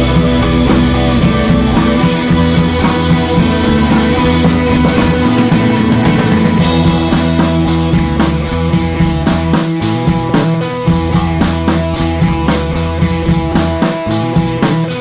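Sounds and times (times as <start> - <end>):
rock music with drum beat: 0.0 - 15.0.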